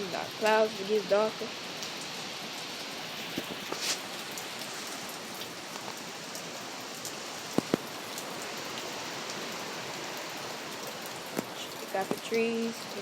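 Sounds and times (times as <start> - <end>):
rain and wind hiss: 0.0 - 13.0.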